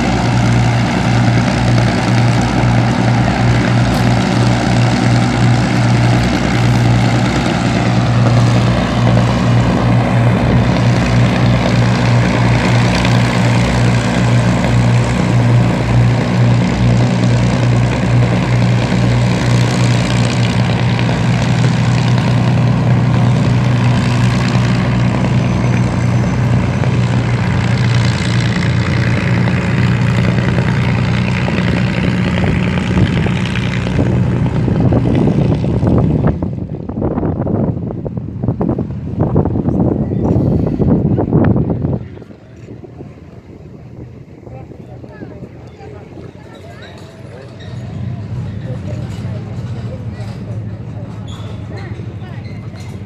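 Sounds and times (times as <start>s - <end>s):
piston aircraft engines droning: 0.0s - 53.0s.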